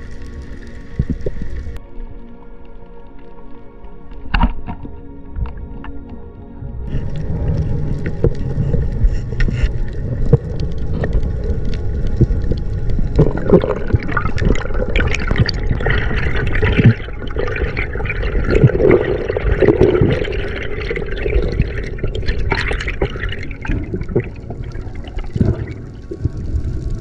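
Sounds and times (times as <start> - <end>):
water sloshing and bubbling: 0.0 - 27.0.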